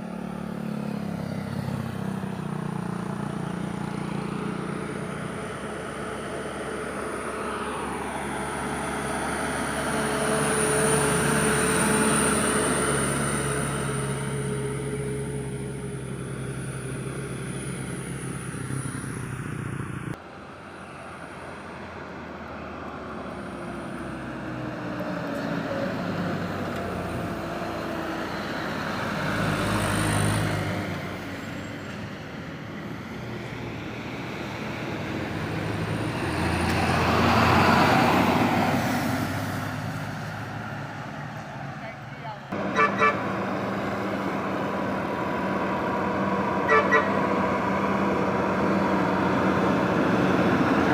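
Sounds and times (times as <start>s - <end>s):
heavy vehicles passing: 0.0s - 50.9s.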